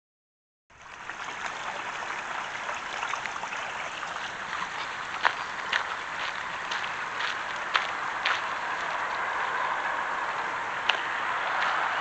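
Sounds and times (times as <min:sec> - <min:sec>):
creek babbling over stones: 0:00.7 - 0:12.0.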